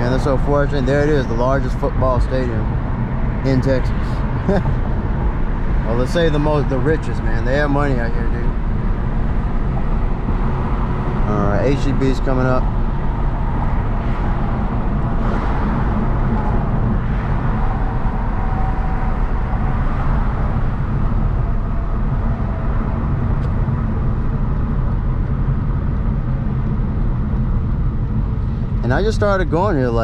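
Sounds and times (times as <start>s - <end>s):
car engine running: 0.0s - 30.0s
tyre and road noise: 0.0s - 30.0s.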